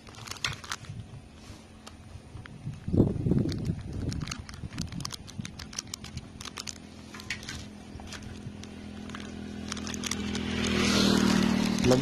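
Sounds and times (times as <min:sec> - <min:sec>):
plastic crinkling: 0:00.0 - 0:01.0, 0:03.3 - 0:12.0.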